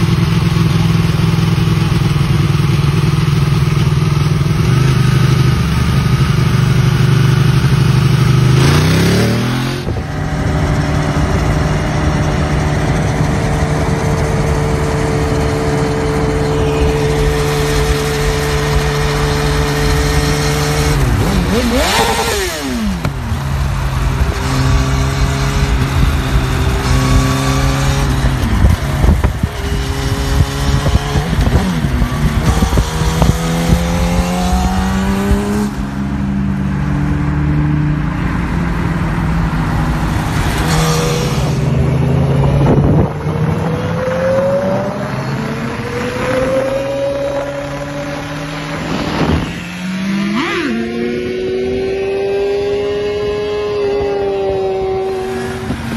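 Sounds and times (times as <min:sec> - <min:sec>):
motorcycle accelerating through gears: 0:00.0 - 0:55.9
second motorcycle revving: 0:00.0 - 0:55.9.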